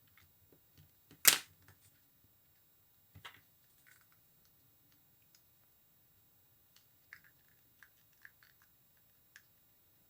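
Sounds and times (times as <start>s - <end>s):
faint clicks of clay pieces: 0.0s - 5.7s, 6.7s - 9.7s.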